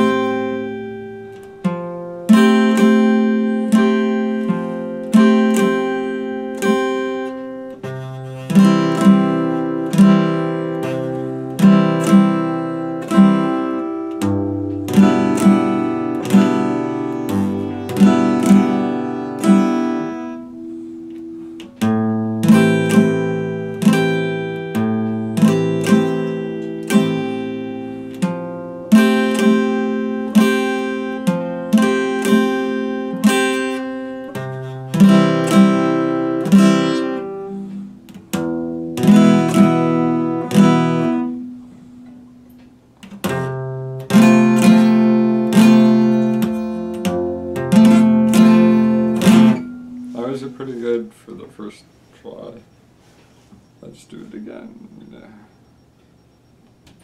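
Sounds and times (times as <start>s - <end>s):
acoustic guitar picking: 0.0s - 57.0s.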